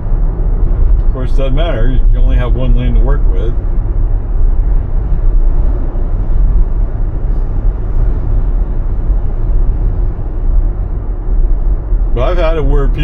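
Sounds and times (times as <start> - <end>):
road rumble and tyre noise: 0.0 - 13.0.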